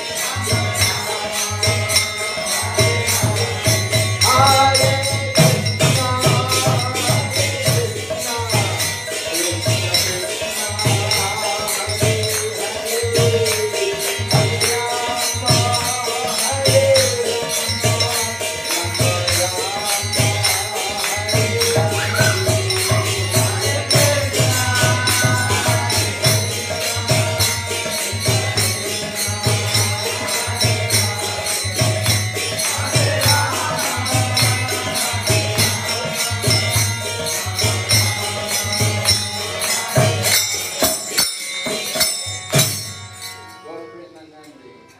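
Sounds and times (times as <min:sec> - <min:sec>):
man singing into a microphone: 0:00.0 - 0:41.2
hand cymbals struck rhythmically: 0:00.0 - 0:44.9.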